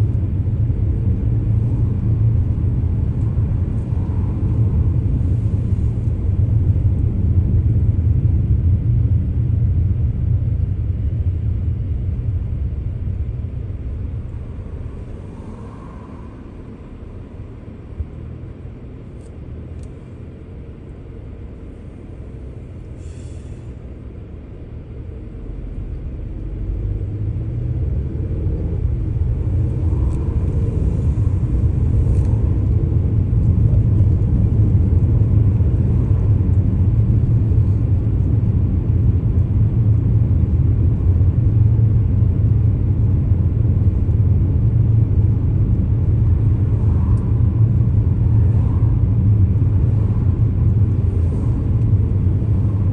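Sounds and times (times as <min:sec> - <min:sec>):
car engine and road noise: 0:00.0 - 0:52.9.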